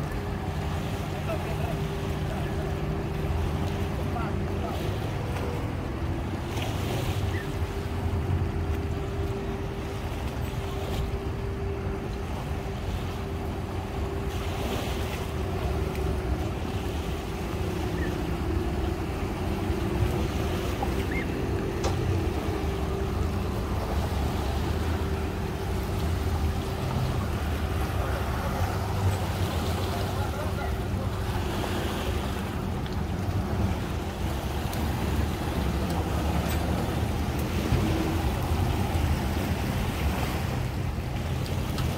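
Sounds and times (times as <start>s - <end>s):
boat engine idling: 0.0s - 41.9s.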